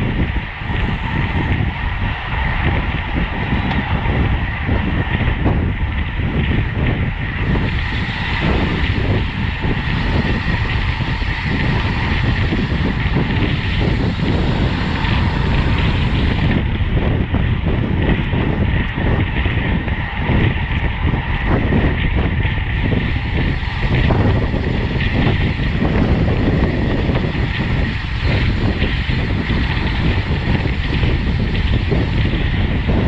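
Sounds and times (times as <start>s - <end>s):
bicycle road noise: 0.0s - 33.0s
wind rushing on microphone: 0.0s - 33.0s.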